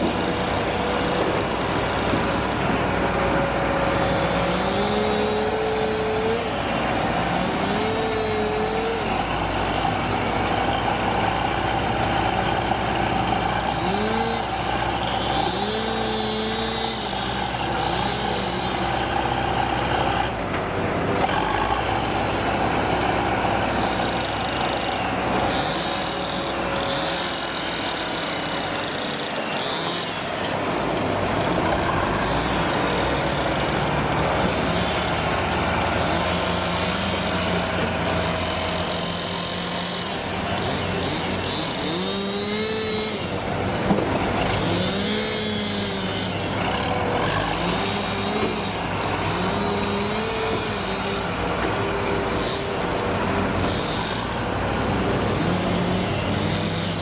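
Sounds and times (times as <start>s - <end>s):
engine revving up and down: 0.0s - 20.4s, 21.1s - 57.0s
heavy diesel engines running: 0.0s - 57.0s.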